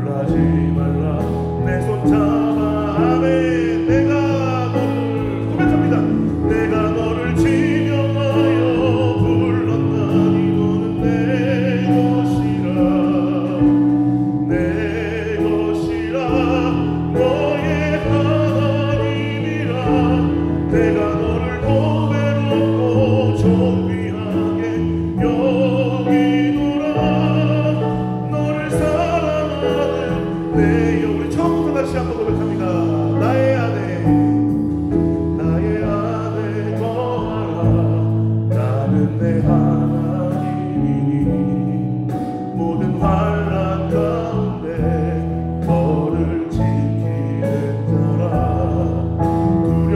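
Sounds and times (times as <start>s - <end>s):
keyboard: 0.0s - 49.9s.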